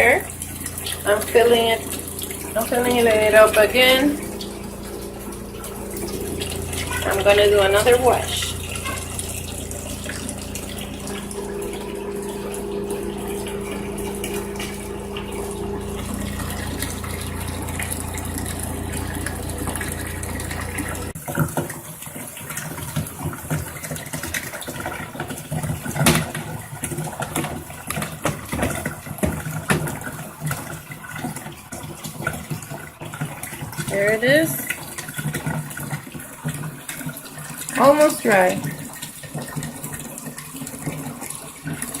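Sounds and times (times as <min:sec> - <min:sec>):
washing machine motor humming: 0:00.0 - 0:42.0
water running into tub: 0:00.0 - 0:42.0.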